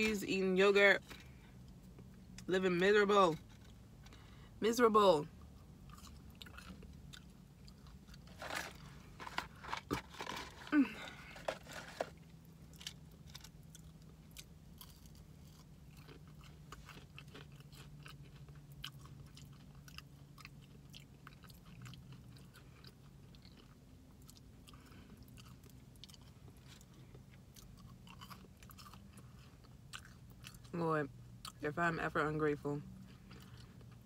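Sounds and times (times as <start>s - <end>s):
steady low hum: 0.0s - 34.0s
close-up chewing of fries: 5.3s - 34.0s.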